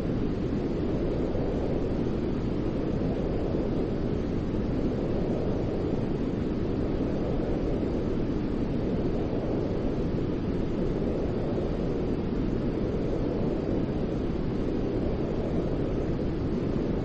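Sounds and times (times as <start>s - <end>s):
deep white noise: 0.0s - 17.0s.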